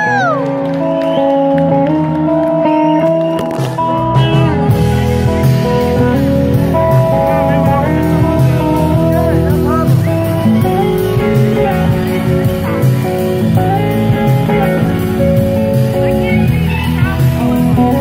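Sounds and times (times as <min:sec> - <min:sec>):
drums: 0:00.0 - 0:18.0
electric guitars: 0:00.0 - 0:18.0.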